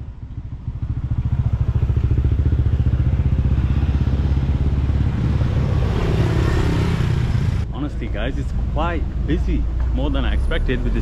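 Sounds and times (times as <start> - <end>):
motorcycle and scooter engines: 0.0 - 11.0.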